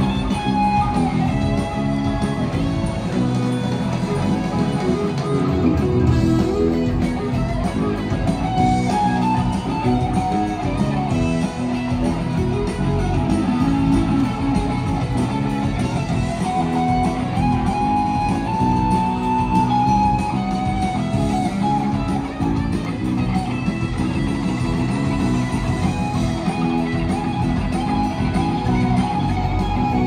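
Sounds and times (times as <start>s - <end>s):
electric guitar lead notes: 0.0s - 30.0s
rock band playing live: 0.0s - 30.0s.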